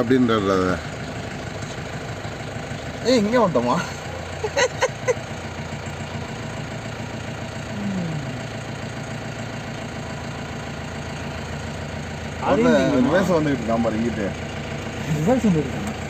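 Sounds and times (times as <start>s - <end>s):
jeep engine idling: 0.0s - 16.0s.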